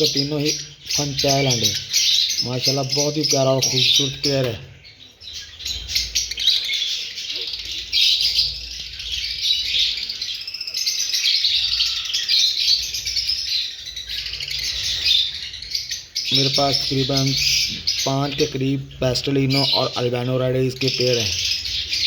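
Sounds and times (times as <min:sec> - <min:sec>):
lovebirds chirping: 0:00.0 - 0:22.0.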